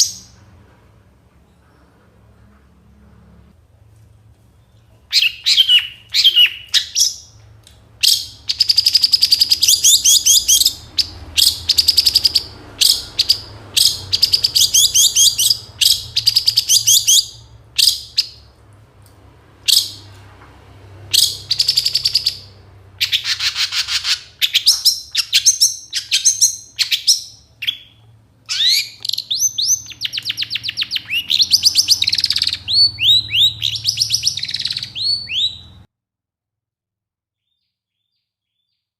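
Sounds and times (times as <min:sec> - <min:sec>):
bird song with chirps and trills: 0:00.0 - 0:00.6, 0:04.4 - 0:18.6, 0:19.7 - 0:20.3, 0:21.0 - 0:35.9, 0:37.4 - 0:38.9.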